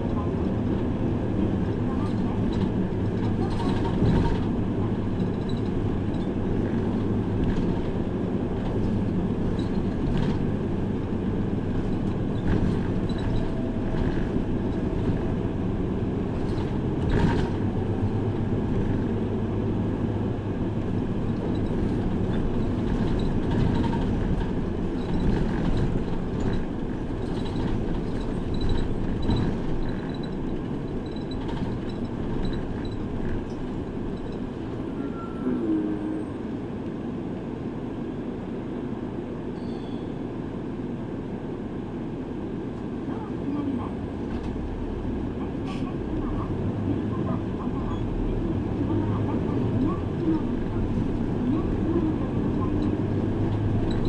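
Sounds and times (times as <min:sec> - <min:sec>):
bus engine hum and road noise: 0:00.0 - 0:54.0.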